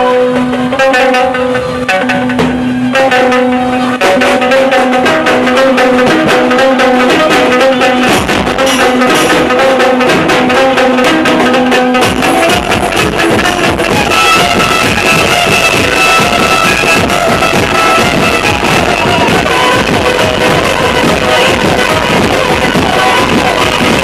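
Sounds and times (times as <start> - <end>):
loud music from loudspeakers: 0.0 - 24.0.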